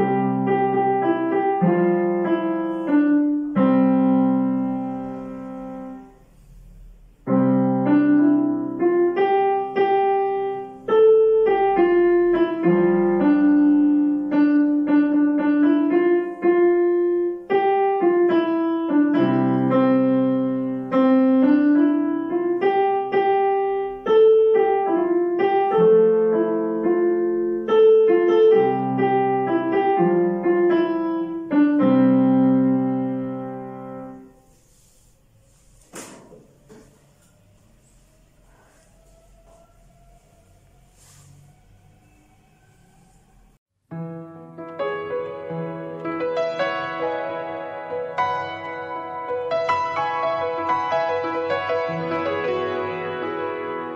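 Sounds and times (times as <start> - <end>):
solo piano piece: 0.0 - 53.9.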